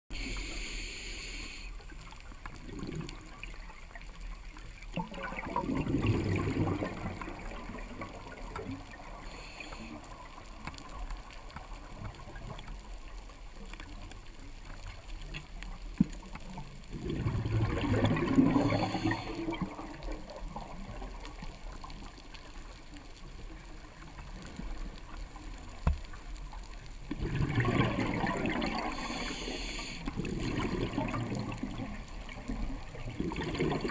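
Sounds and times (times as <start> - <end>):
low water hiss: 0.1 - 33.9
regulator bubbles gurgling: 1.7 - 33.9.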